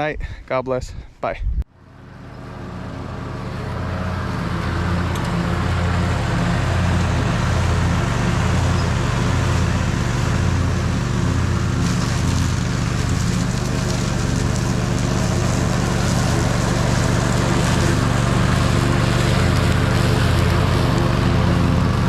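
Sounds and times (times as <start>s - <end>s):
lawn mower engine running: 1.7s - 22.0s.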